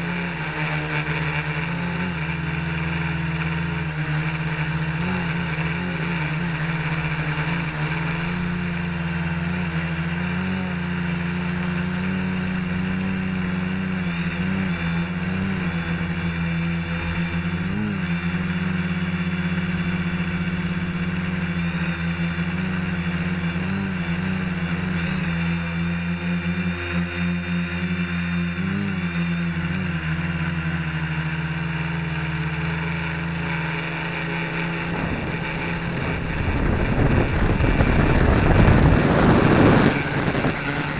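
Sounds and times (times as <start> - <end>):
quadcopter motors buzzing: 0.0 - 40.9.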